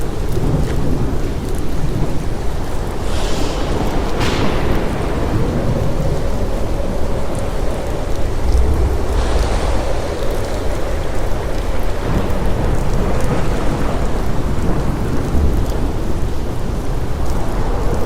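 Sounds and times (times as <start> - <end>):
deep rumble: 0.0 - 18.0
steady rain: 0.0 - 18.0.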